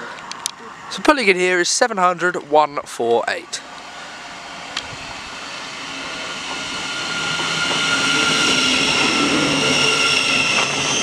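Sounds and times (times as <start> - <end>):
electric train high whine: 0.0 - 11.0.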